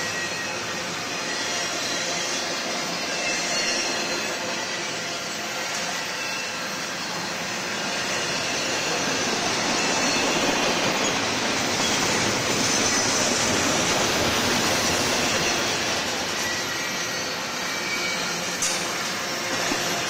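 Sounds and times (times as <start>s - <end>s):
steel wheels on rail: 0.0s - 20.0s.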